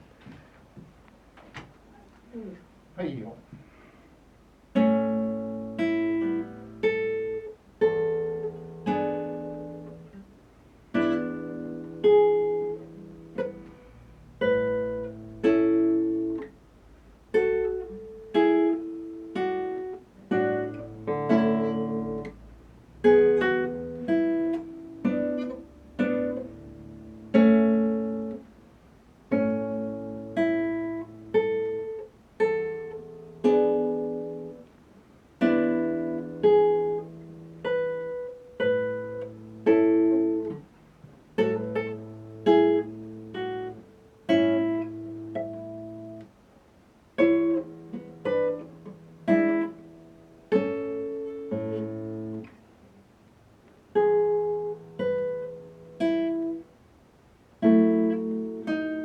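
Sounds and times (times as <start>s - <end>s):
acoustic guitar playing slow piece: 4.0s - 59.0s.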